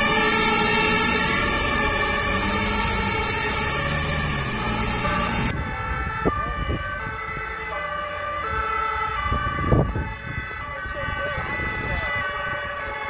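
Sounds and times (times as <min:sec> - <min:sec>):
road traffic noise: 0:00.0 - 0:13.0
two-tone emergency siren: 0:00.0 - 0:13.0.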